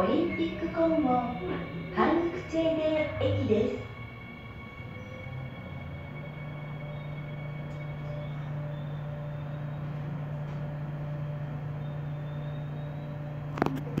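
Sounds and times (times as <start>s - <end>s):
faint higher tones: 0.0s - 13.6s
train interior hum: 0.0s - 14.0s.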